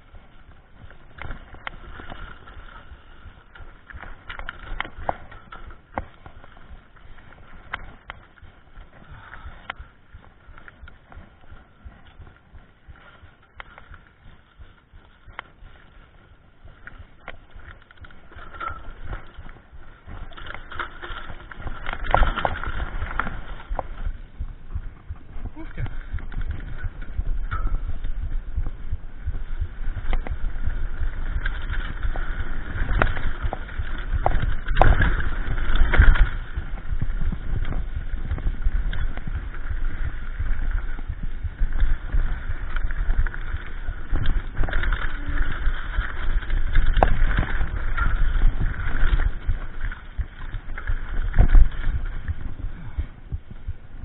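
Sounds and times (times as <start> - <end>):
bike rattling over rocks: 0.0 - 54.0
wind rush on camera: 0.0 - 54.0.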